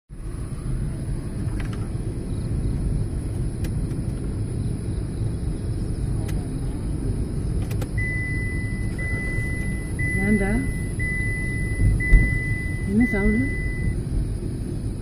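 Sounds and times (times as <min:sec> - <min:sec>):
car engine and tyre rumble: 0:00.1 - 0:15.0.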